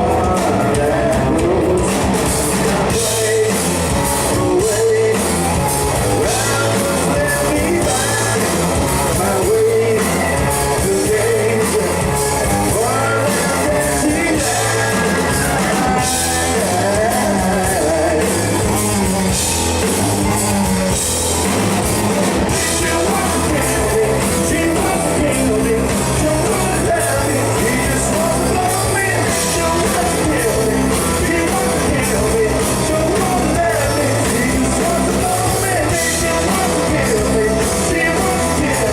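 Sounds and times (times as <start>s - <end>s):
person singing: 0.0s - 20.7s, 22.3s - 38.9s
bass notes: 0.0s - 38.9s
drum kit beat: 0.0s - 38.9s
electric guitar: 0.0s - 38.9s.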